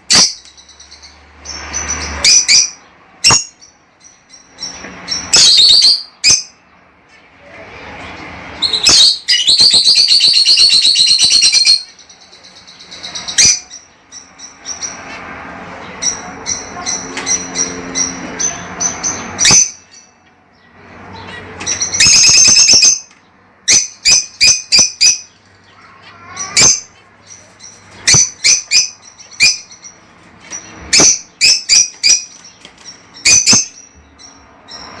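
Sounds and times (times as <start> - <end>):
lovebirds chirping: 0.0 - 35.0.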